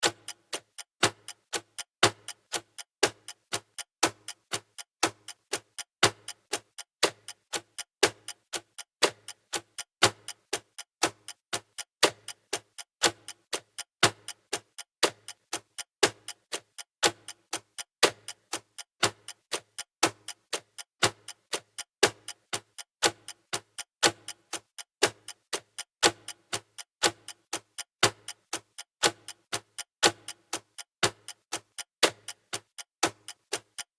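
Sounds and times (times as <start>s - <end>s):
clock ticking: 0.0s - 33.9s.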